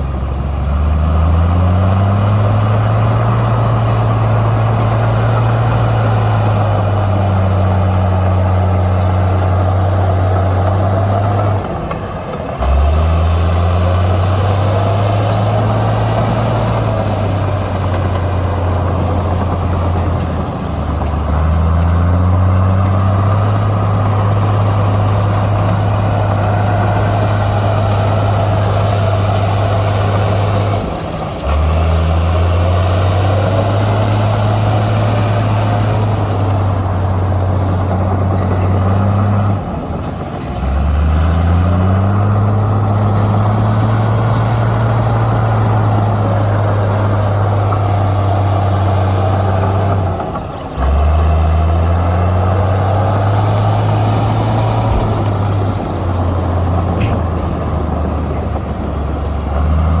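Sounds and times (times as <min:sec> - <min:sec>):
bulldozer diesel engine revving: 0:00.0 - 1:00.0.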